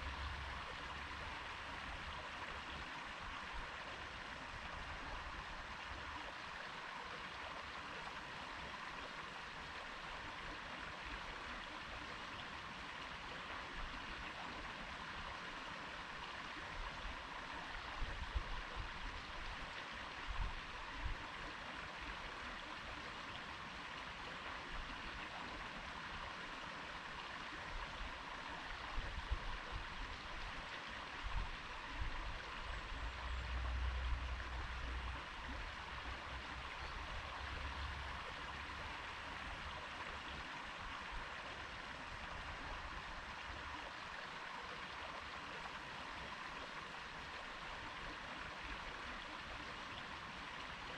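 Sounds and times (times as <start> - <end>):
river water babbling: 0.0 - 50.9.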